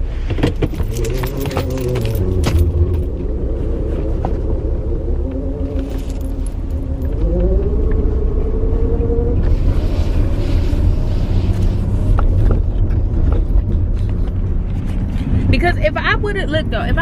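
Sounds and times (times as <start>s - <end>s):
car engine: 0.0s - 17.0s
road rumble: 0.0s - 17.0s.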